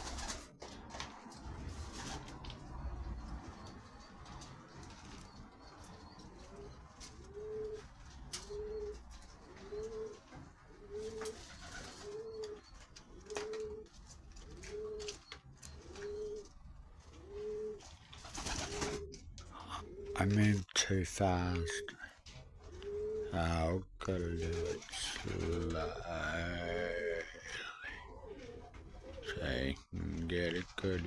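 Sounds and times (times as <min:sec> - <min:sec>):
pigeon cooing: 0:00.0 - 0:31.0.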